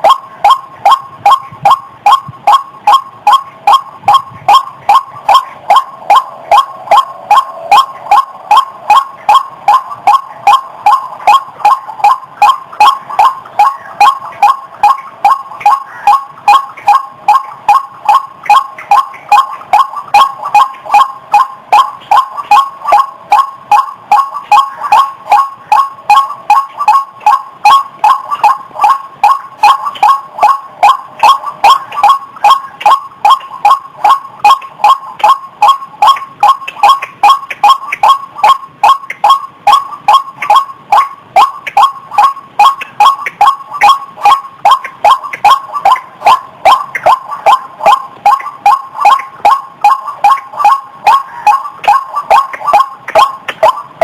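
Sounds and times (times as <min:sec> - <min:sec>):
waterhen calling: 0:00.0 - 0:54.0.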